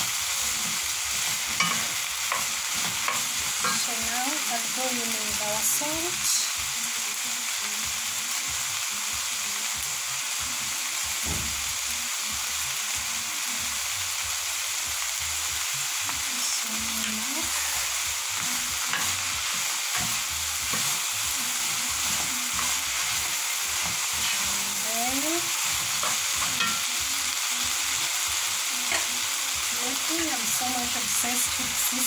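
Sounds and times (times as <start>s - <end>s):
vegetables sizzling in frying pan: 0.0s - 32.0s.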